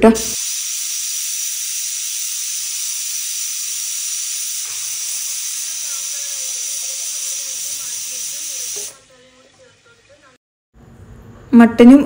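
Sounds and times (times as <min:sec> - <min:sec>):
pressure cooker hissing: 0:00.2 - 0:10.4.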